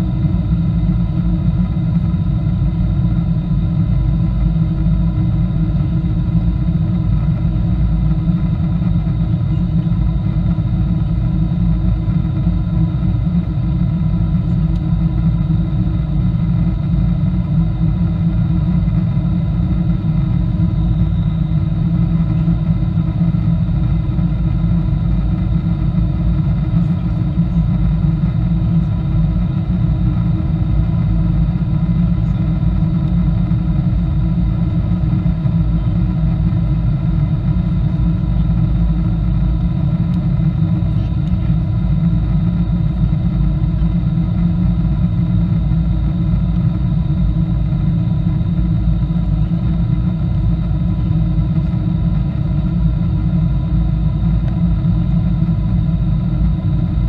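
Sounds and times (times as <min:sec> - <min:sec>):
airplane cabin engine rumble: 0:00.0 - 0:57.0
faint steady tones: 0:00.2 - 0:57.0.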